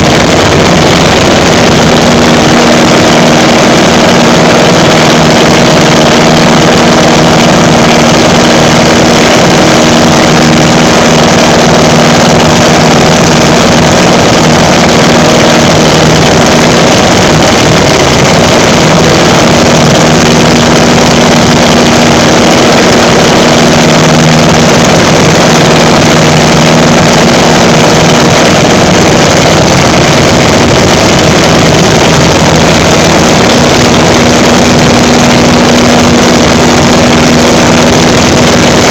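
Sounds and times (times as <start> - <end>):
propeller plane engine running: 0.0 - 38.9
wind rushing over microphone: 0.0 - 38.9.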